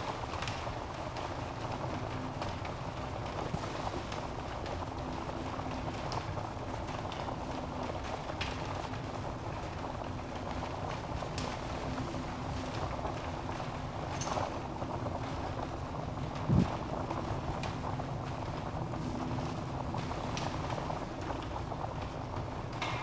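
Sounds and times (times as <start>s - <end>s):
fire flames hissing and rumbling: 0.0s - 23.0s
logs crackling and popping: 0.0s - 23.0s.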